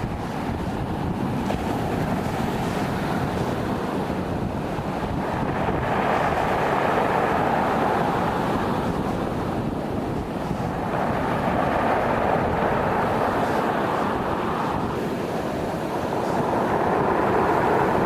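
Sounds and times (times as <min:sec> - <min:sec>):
stormy wind and sea rushing: 0:00.0 - 0:18.0.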